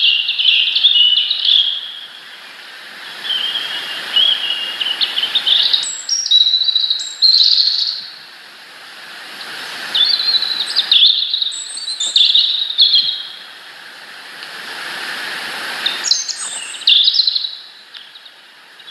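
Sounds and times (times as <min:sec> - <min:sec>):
songbird singing: 0:00.0 - 0:08.3, 0:09.3 - 0:13.6, 0:15.8 - 0:18.9
steady background hiss: 0:00.0 - 0:18.9.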